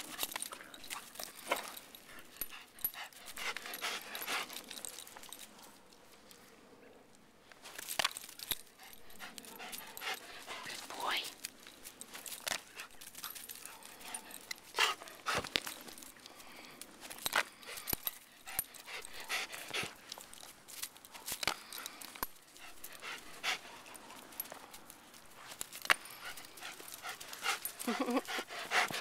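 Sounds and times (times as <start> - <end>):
dog panting: 0.0 - 5.7, 8.5 - 11.4, 12.3 - 20.4, 21.2 - 29.0.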